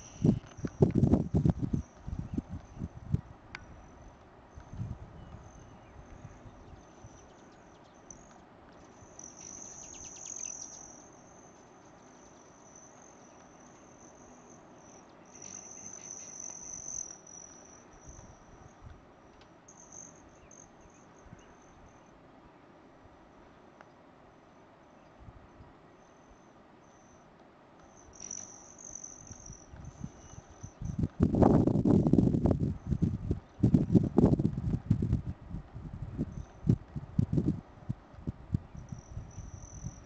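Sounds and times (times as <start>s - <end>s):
hummingbird wings buzzing: 0.0s - 22.0s, 27.8s - 38.0s.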